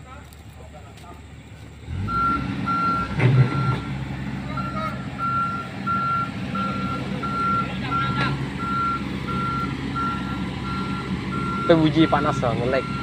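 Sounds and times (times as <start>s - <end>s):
diesel engine drone: 0.0s - 13.0s
excavator travel alarm beeping: 2.0s - 13.0s.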